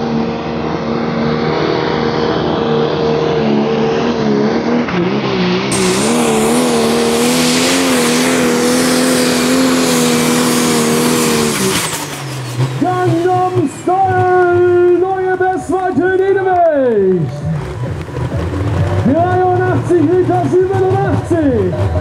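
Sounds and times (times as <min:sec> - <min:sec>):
diesel tractor engine under full load: 0:00.0 - 0:22.0.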